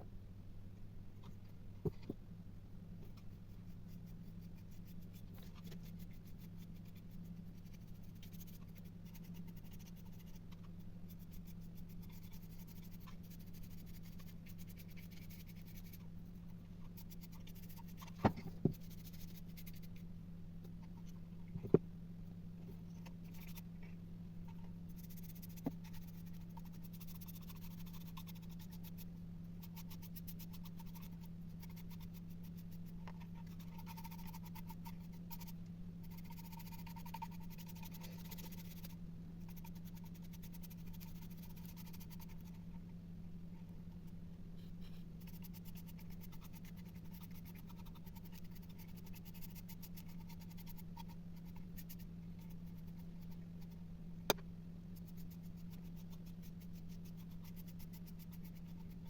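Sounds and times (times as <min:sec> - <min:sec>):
steady low hum: 0:00.0 - 0:59.0
faint scratching on a surface: 0:03.0 - 0:20.1, 0:22.6 - 0:53.8, 0:54.9 - 0:59.0.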